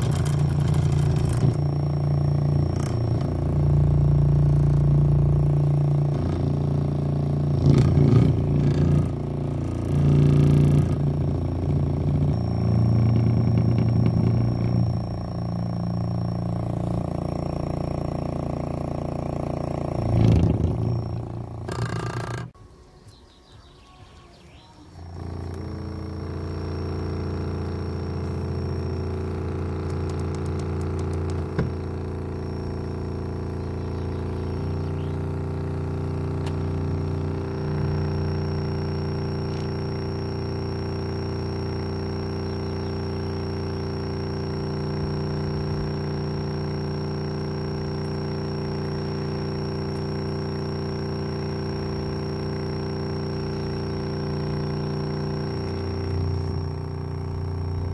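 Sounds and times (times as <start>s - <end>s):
loud low bass test tone: 0.0s - 22.6s, 24.9s - 57.9s.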